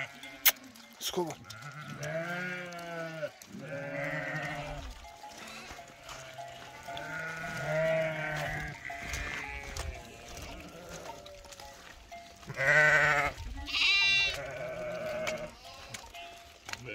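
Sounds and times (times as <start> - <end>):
sheep bleating: 0.0 - 11.8, 12.4 - 16.9.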